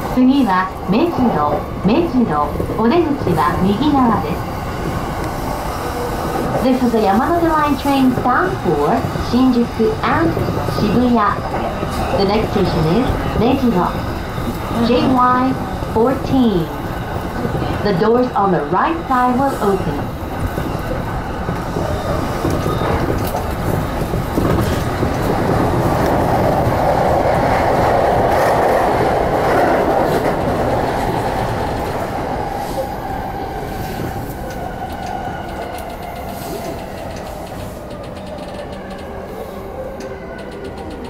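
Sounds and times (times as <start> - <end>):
train wheels rumbling on track: 0.0 - 41.0.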